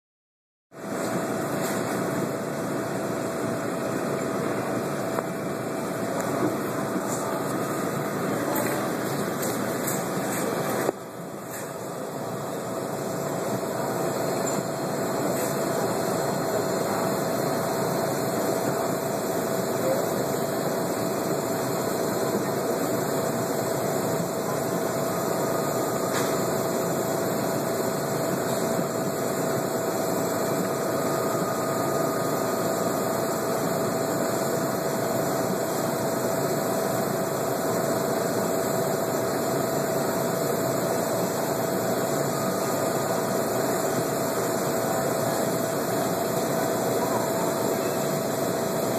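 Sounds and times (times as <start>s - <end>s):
machinery hum and hiss: 0.8s - 48.9s.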